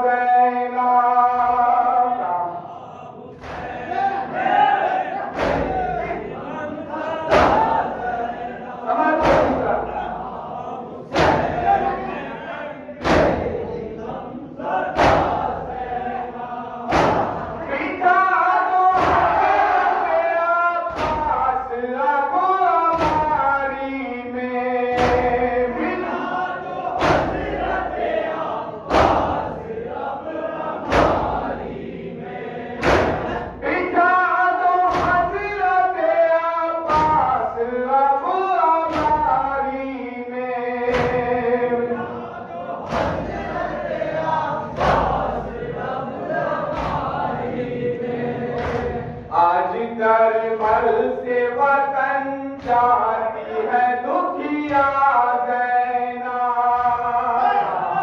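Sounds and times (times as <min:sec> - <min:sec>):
men's chorus chanting: 0:00.0 - 0:58.0.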